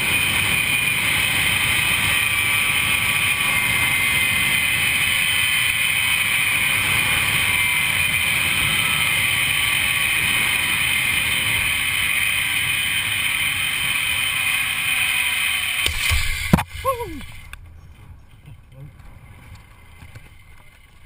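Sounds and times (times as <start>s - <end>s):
zip line trolley humming: 0.0s - 21.0s.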